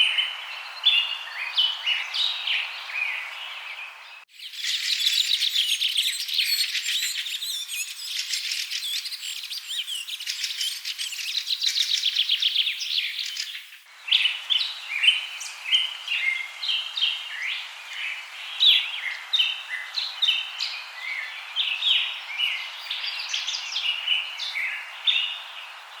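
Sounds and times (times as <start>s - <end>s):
songbirds trilling and chirping: 0.0s - 26.0s.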